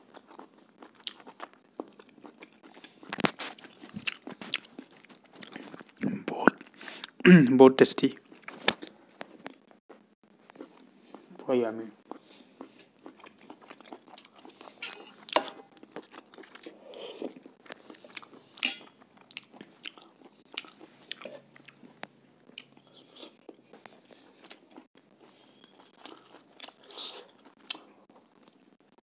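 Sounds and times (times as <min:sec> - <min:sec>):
person chewing and biting food: 0:00.0 - 0:07.2, 0:08.2 - 0:11.3, 0:12.0 - 0:28.6.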